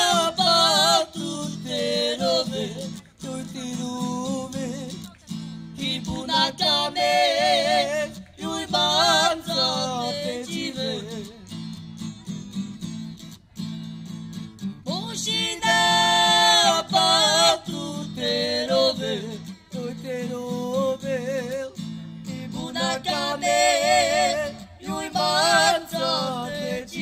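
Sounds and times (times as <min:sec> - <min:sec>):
man singing: 0:00.0 - 0:11.5, 0:14.9 - 0:27.0
strummed acoustic guitar: 0:00.0 - 0:27.0.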